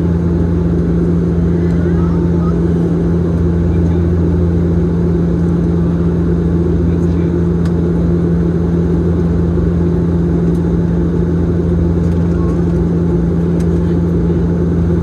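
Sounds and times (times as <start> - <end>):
turboprop cabin drone: 0.0 - 15.0.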